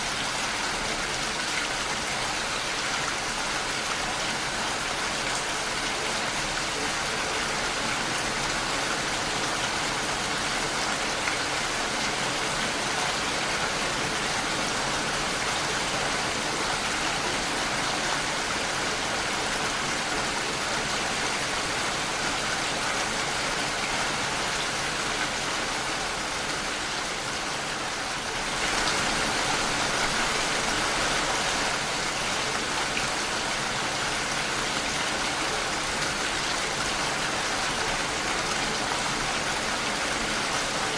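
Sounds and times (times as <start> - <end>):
rain pattering against a window: 0.0 - 40.9.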